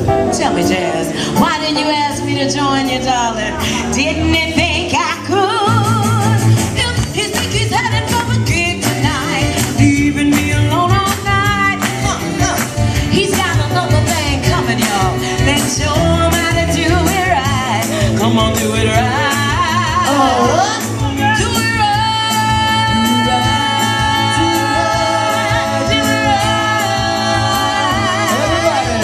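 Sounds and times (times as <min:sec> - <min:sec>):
band with steady bass beat: 0:00.0 - 0:29.0
woman singing soul music: 0:00.0 - 0:29.0.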